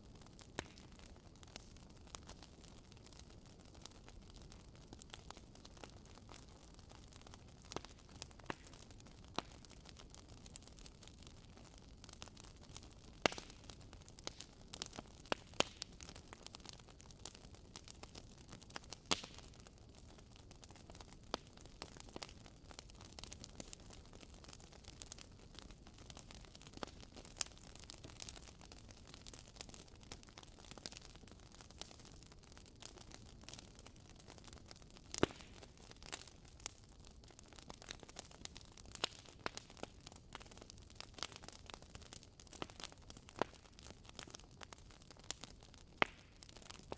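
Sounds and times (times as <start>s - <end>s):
logs crackling and popping: 0.0s - 46.9s.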